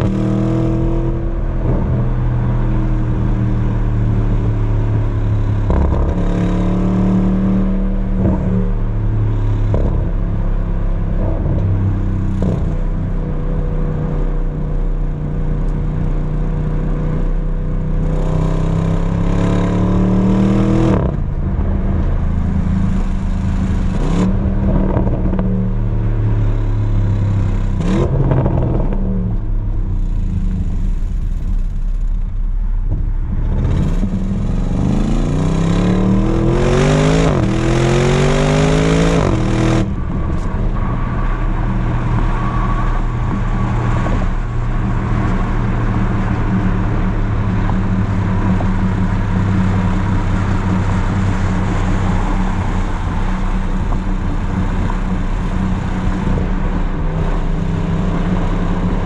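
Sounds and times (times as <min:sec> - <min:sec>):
car exhaust revving and droning: 0:00.0 - 0:59.0.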